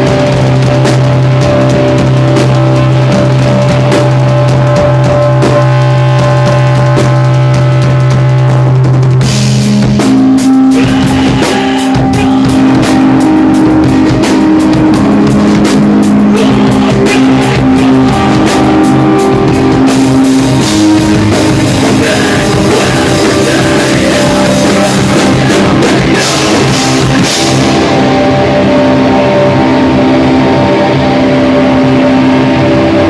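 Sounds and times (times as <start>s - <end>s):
drum kit with cymbal hits: 0.0s - 33.0s
electric guitars: 0.0s - 33.0s.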